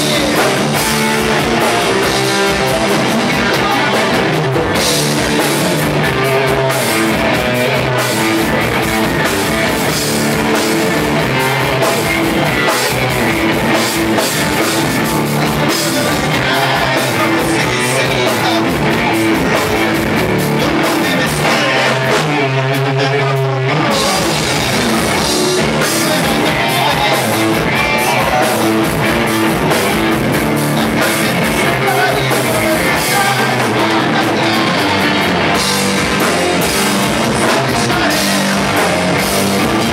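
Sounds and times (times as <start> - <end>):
drum kit: 0.0 - 39.9
live rock band: 0.0 - 39.9.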